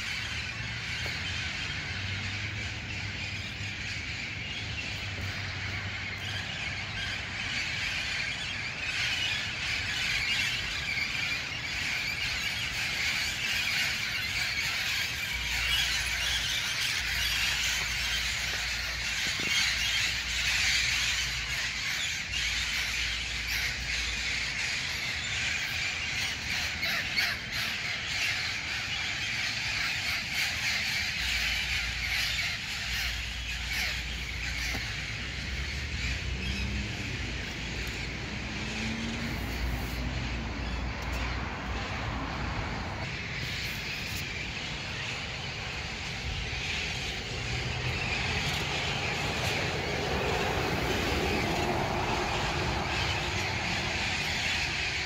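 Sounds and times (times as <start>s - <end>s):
parrots squawking and screeching: 0.0s - 55.0s.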